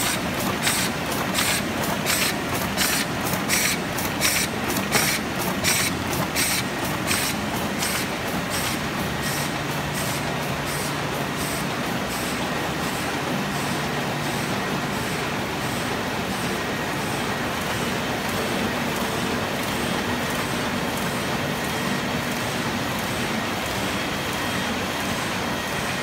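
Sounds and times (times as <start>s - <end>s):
printing press running: 0.0s - 26.0s.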